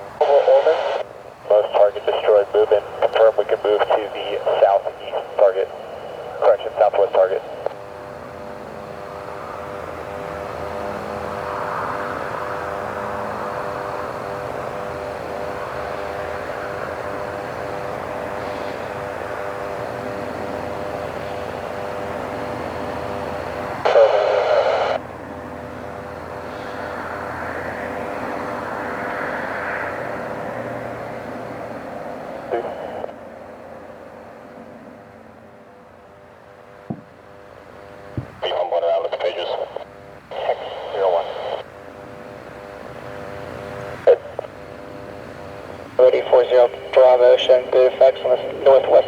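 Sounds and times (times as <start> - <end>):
aircraft engine drone: 0.0 - 49.0.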